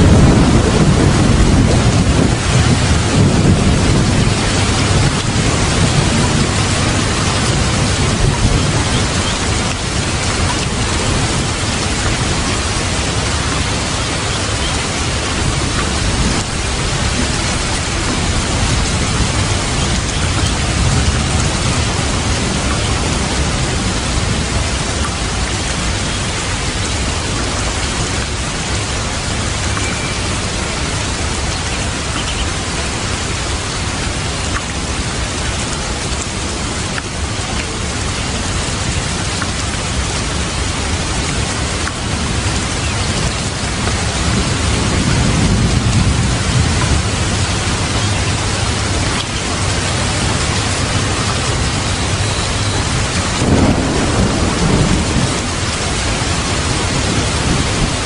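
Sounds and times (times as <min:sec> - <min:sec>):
heavy rain: 0:00.0 - 0:58.0
low thunder rumble: 0:00.0 - 0:58.0.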